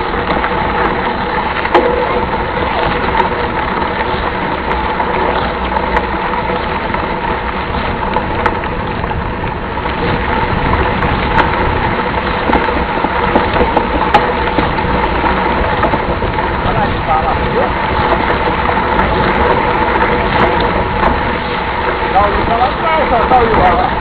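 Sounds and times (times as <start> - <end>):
mountain bike rumbling on rough trail: 0.0 - 24.0
small rattling knocks: 0.0 - 24.0.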